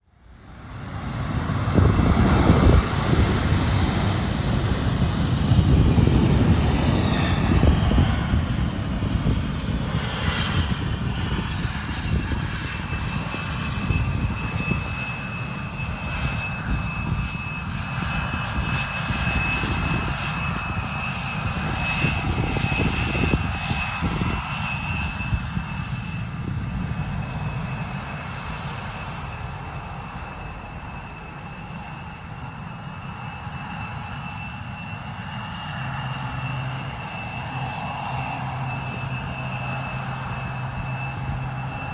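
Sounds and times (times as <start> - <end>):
jet engine whine: 0.0 - 41.9
jet engine rumble: 0.1 - 41.9.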